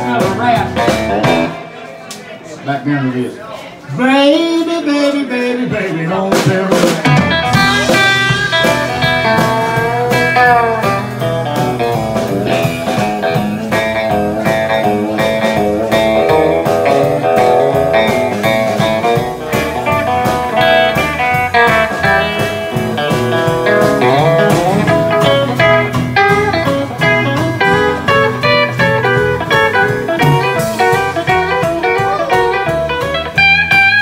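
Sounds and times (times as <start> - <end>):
steady drum beat: 0.0 - 1.6, 5.8 - 34.0
bass guitar: 0.0 - 1.8, 3.9 - 34.0
electric lead guitar: 0.0 - 1.8, 6.3 - 34.0
strummed acoustic guitar: 5.7 - 34.0.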